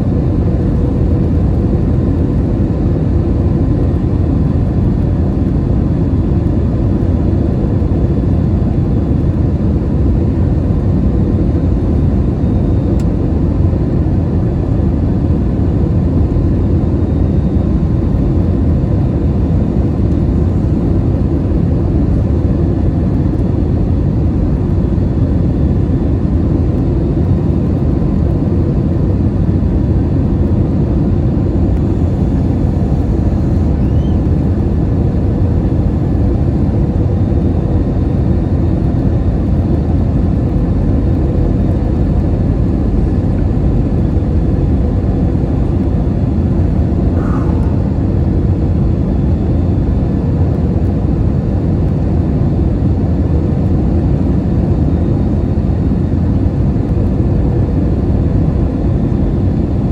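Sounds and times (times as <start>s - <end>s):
faint steady hum: 0.0s - 50.6s
airplane cabin engine roar: 0.0s - 59.9s.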